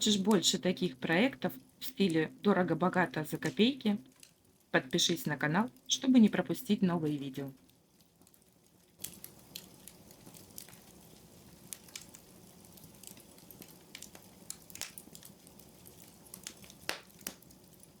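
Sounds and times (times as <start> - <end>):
fire crackling: 0.0 - 18.0
low steady hum: 0.0 - 18.0.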